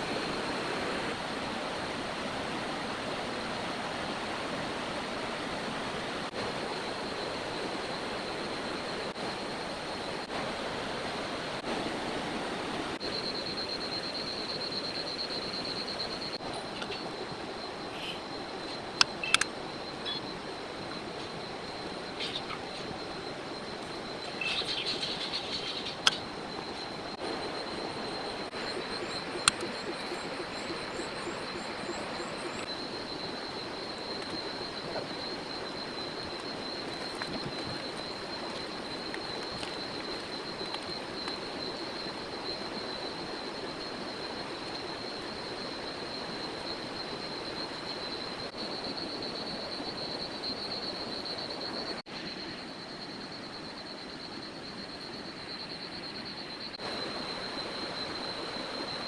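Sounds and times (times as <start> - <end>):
high-pitched insect drone: 6.0 - 12.3, 13.0 - 59.0.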